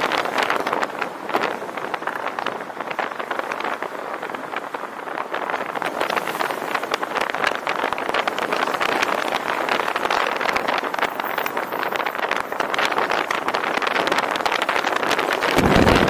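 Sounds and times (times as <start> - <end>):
road noise: 0.0 - 16.0
wind noise on microphone: 0.0 - 16.0.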